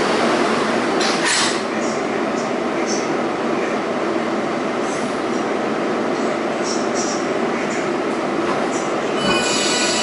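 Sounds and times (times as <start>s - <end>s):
subway car rumble and hum: 0.0s - 10.0s.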